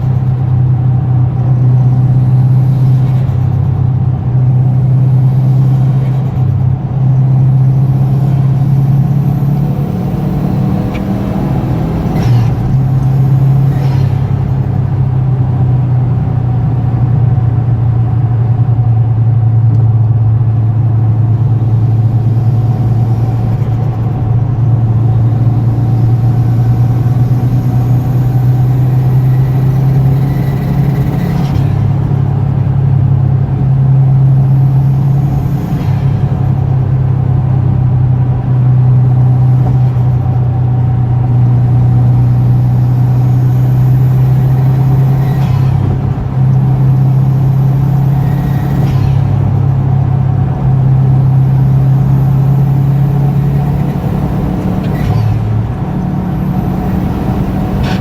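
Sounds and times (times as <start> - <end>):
car engine droning: 0.0 - 58.0.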